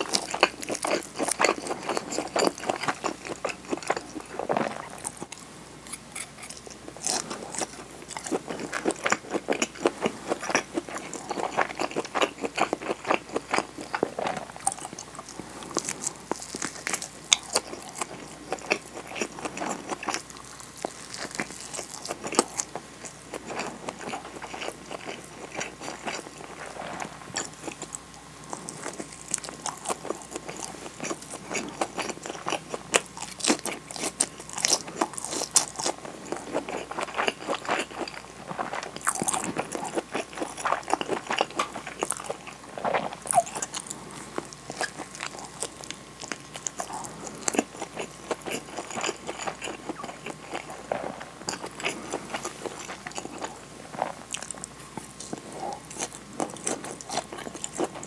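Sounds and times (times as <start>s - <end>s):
biting and chewing rice ball: 0.0s - 58.0s.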